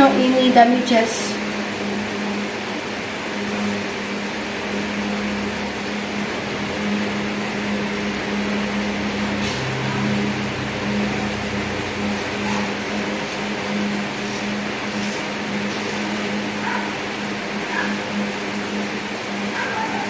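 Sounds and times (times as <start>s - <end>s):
deeper hum: 0.0s - 20.0s
steady machine hum: 0.0s - 20.0s.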